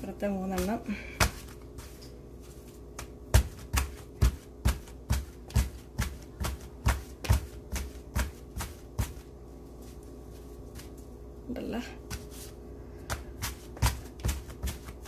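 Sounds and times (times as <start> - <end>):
hands beating flatbreads: 0.4 - 9.5, 12.0 - 15.0.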